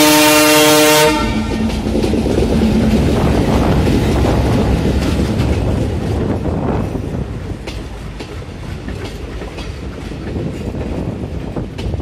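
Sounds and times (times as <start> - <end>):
train wheels rumbling on track: 0.0 - 12.0
wheels clickety-clack over rail joints: 0.0 - 12.0.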